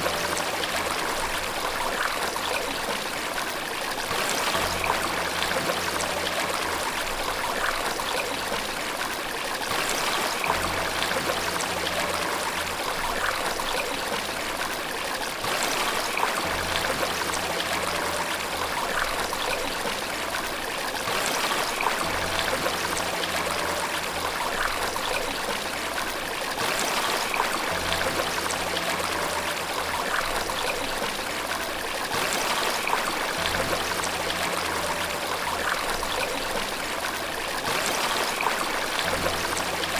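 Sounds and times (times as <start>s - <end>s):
soft low music notes: 0.0s - 39.9s
water rushing: 0.0s - 39.9s.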